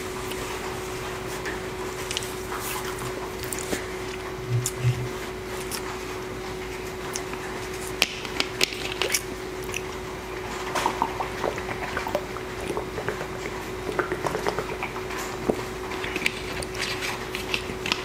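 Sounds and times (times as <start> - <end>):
steady low hum: 0.0 - 18.0
chewing and mouth sounds: 1.4 - 6.0, 6.7 - 18.0.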